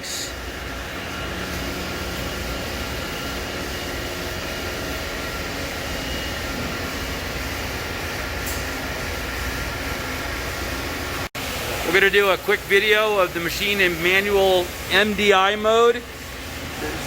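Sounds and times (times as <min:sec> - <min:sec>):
industrial machinery hum and hiss: 0:00.0 - 0:17.0.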